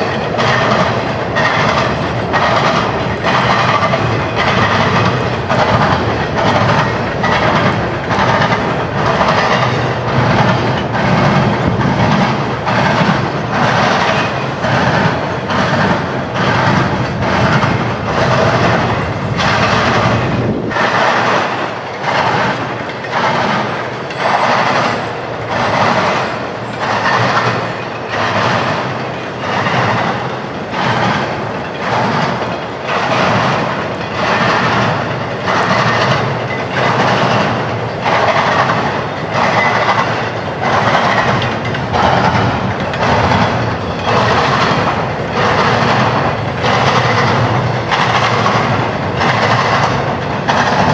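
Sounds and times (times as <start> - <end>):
freight train wheels clattering: 0.0 - 50.9.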